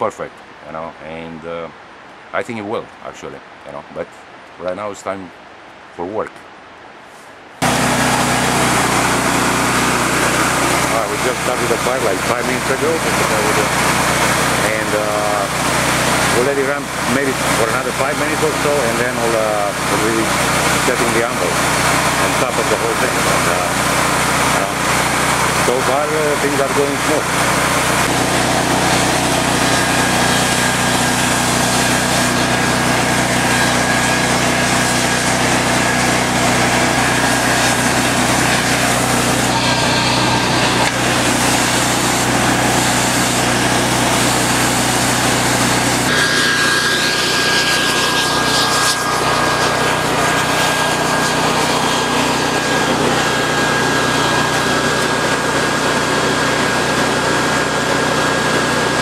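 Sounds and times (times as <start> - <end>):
leaf blower blowing air: 7.6 - 59.0
portable generator droning: 7.6 - 59.0.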